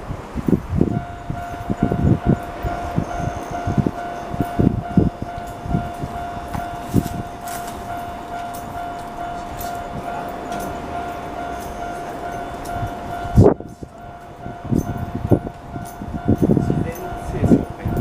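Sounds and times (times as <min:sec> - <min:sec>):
train wheels thudding on rails: 0:00.4 - 0:18.0
level crossing alarm ringing: 0:00.7 - 0:18.0.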